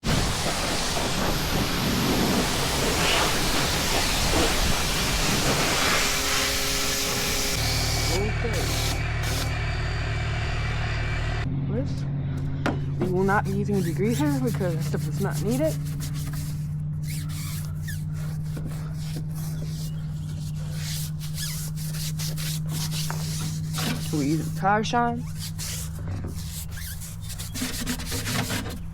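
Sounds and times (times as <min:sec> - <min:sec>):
pressure washer spraying water: 0:00.0 - 0:09.6, 0:13.0 - 0:24.6, 0:25.2 - 0:28.9.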